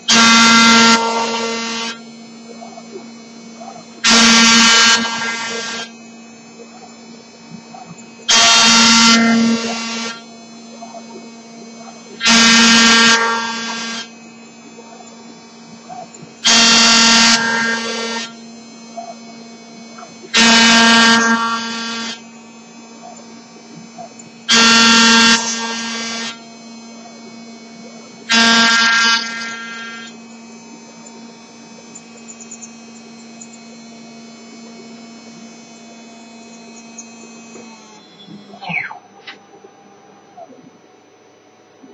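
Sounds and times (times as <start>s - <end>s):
router spindle running: 0.0s - 40.4s
loud whining bursts: 0.0s - 41.7s.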